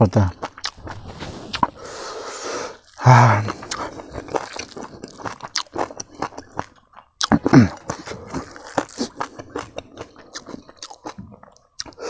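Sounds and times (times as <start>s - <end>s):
person chewing food: 0.2s - 12.0s.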